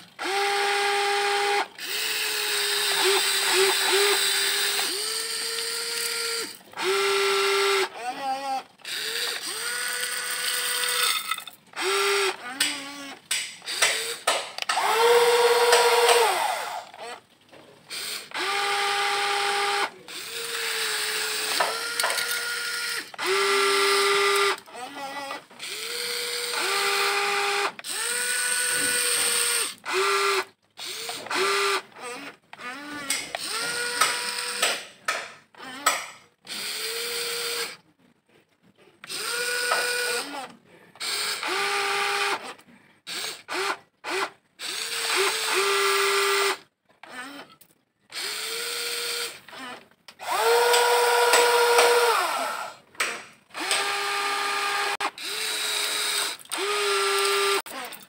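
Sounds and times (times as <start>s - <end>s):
toy electric motors whining: 0.0s - 34.9s, 35.5s - 37.8s, 39.0s - 52.8s, 53.5s - 58.0s.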